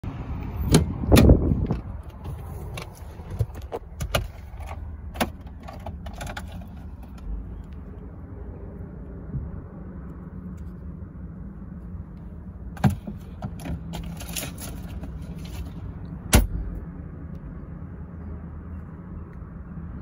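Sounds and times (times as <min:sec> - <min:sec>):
engine idling low rumble: 0:00.0 - 0:20.0.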